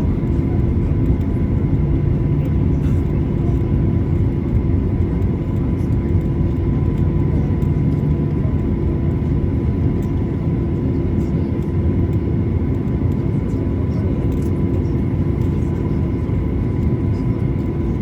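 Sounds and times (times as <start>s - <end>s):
jet engines idling: 0.0s - 18.0s.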